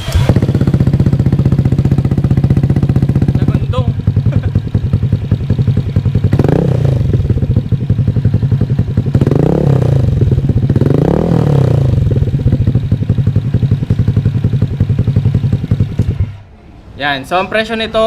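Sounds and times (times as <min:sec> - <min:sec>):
scooter engine idling and revving: 0:00.0 - 0:16.5.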